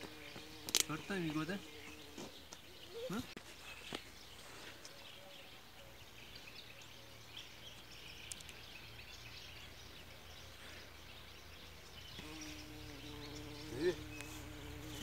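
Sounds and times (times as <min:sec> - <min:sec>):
bird chirps: 0:00.1 - 0:15.0.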